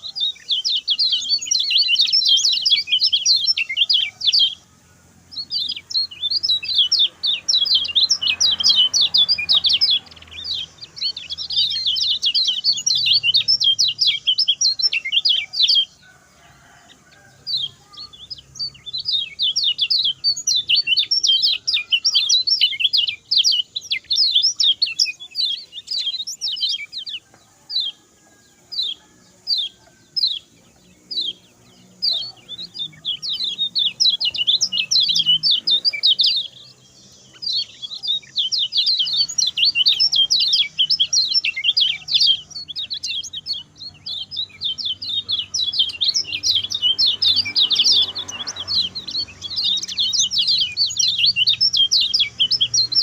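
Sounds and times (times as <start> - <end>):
bird twittering song: 0.0 - 53.0.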